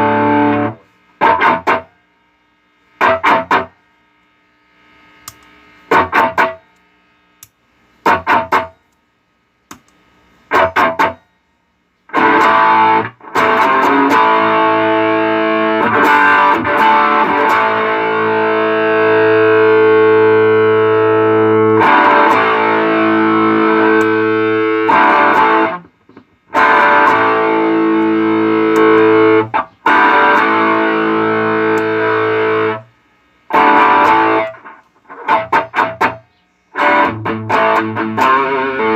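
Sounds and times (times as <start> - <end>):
overdriven electric guitar chords: 0.0 - 7.0, 8.0 - 8.8, 10.5 - 11.3, 12.1 - 36.2, 36.8 - 38.9.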